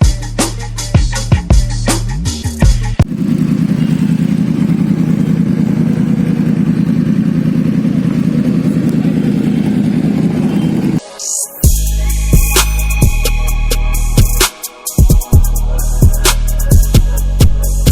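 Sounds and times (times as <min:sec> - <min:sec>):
motorcycle engine running: 0:00.0 - 0:11.0, 0:11.6 - 0:17.9.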